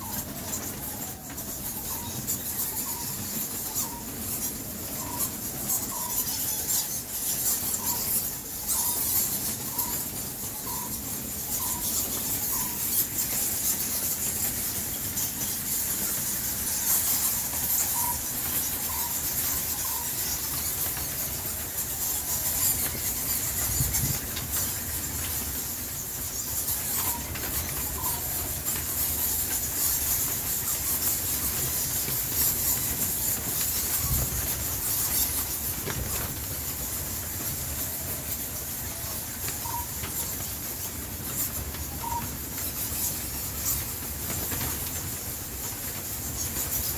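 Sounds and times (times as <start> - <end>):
bats squeaking: 0.0 - 46.9.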